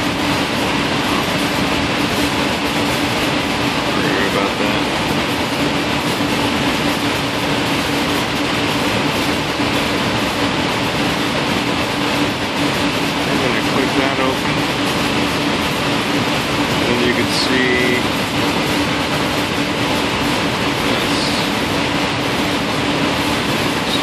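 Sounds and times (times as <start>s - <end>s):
constant low hum: 0.0s - 24.0s
steady rushing noise: 0.0s - 24.0s.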